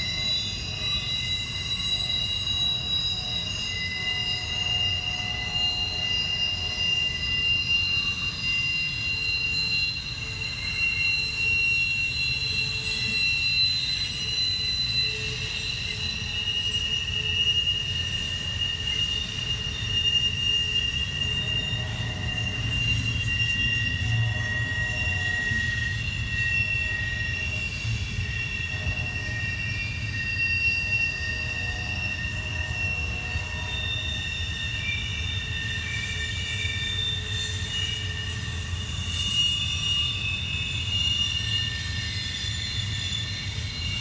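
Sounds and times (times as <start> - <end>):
low rumble of rolling train cars: 0.0 - 44.0
train wheels squealing: 0.0 - 44.0.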